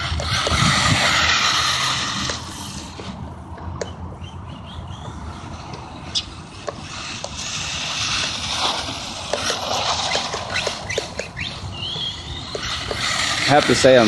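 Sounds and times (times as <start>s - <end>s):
tires hissing on wet ground: 0.0s - 3.3s, 5.2s - 14.0s.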